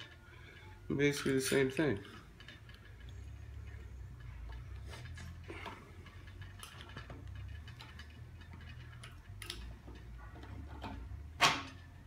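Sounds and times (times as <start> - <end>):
low steady hum: 0.0 - 12.0
metal parts clicking and tapping: 0.0 - 12.0.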